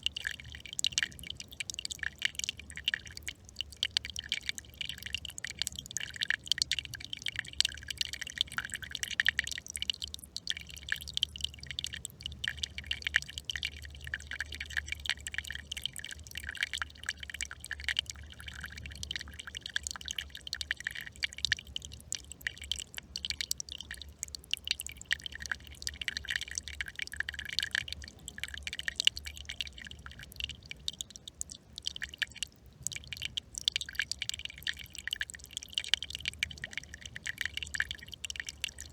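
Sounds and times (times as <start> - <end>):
brook trickling and babbling: 0.0 - 38.9.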